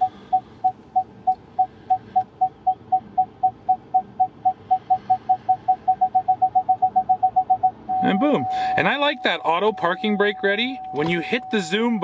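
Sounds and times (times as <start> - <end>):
parking sensor beeping: 0.0 - 12.0.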